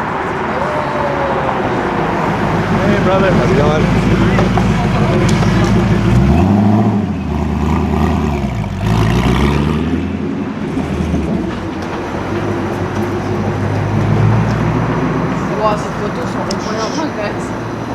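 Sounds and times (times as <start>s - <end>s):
sports car engine revving: 0.0s - 17.9s.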